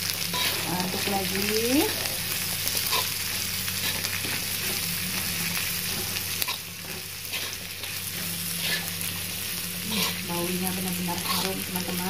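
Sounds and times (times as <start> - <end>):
food sizzling in a wok: 0.0 - 12.0
metal spatula scraping a wok: 0.2 - 1.1, 2.6 - 11.9.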